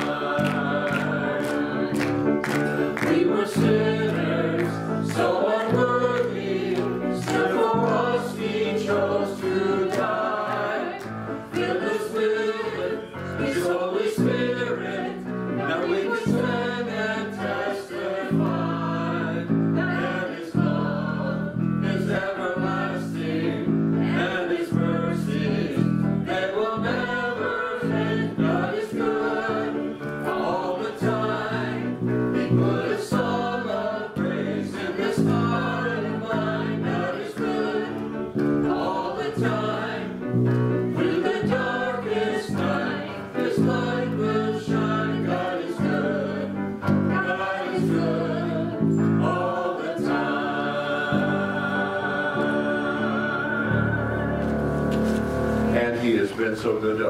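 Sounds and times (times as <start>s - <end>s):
guitar: 0.0s - 56.5s
keyboard chords: 0.0s - 56.9s
voices singing: 0.0s - 57.0s.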